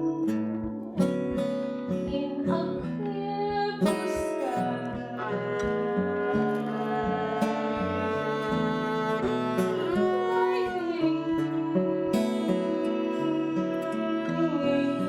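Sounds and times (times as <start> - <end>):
acoustic guitar playing: 0.0 - 15.0
person singing: 0.0 - 15.0.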